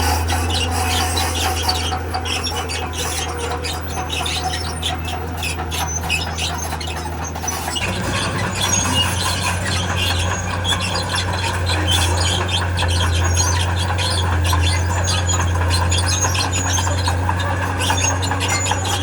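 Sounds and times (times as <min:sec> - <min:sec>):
diesel engine running: 0:00.0 - 0:19.0
steel tracks squealing and scraping: 0:00.0 - 0:19.0.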